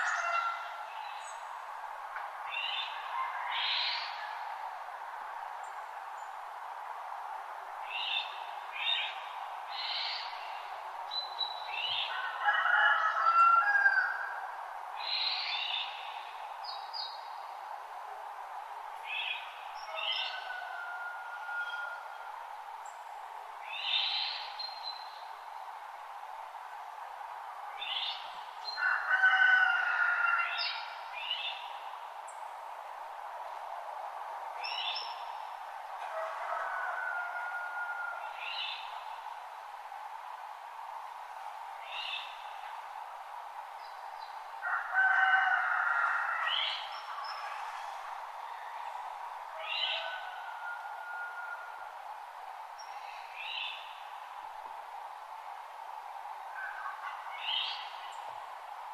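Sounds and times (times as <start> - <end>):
steady background hiss: 0.0 - 58.9.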